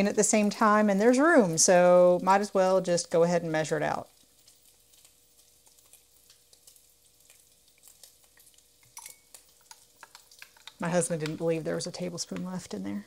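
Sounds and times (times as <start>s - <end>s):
bacon frying crackling: 0.0s - 13.0s.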